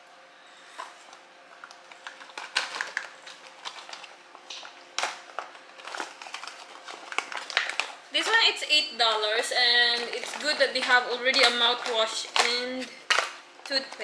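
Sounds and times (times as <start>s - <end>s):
plastic bag crinkling: 0.6s - 14.0s.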